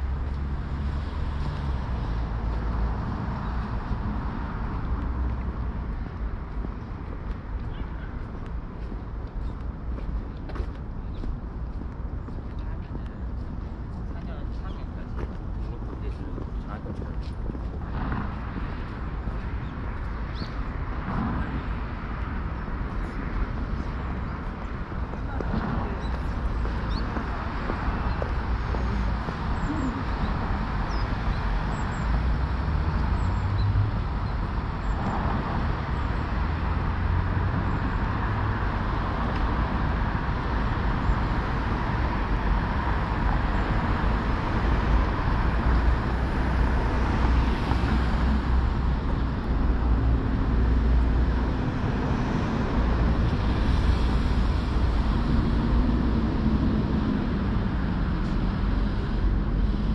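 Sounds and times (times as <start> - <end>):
passing cars and engines: 0.0 - 59.9.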